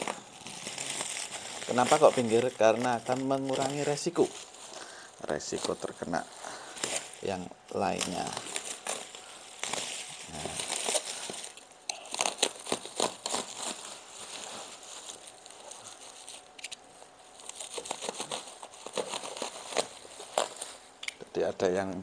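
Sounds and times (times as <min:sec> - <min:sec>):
plastic wrapping crinkling and tearing: 0:00.0 - 0:21.2.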